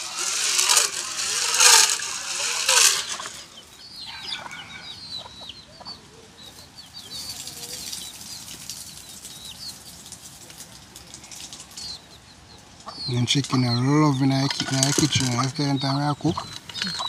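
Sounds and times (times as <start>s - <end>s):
chickens clucking: 0.0s - 8.2s, 11.2s - 17.0s
chickens peeping: 0.0s - 9.9s, 11.2s - 17.0s.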